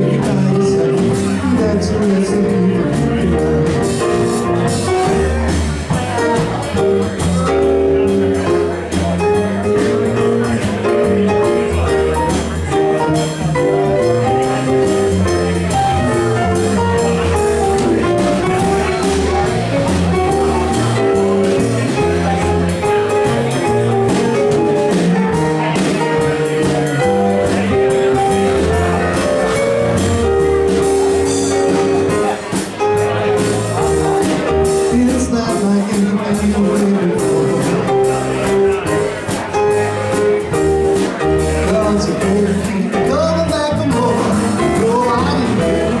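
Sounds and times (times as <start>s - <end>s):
drum kit: 0.0s - 46.0s
electric bass: 0.0s - 46.0s
keyboard melody: 0.0s - 46.0s.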